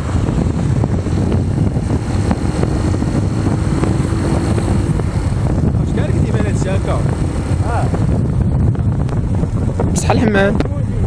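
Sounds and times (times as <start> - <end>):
motorcycle engine running: 0.0 - 11.0
wind rumbling on microphone: 0.0 - 11.0.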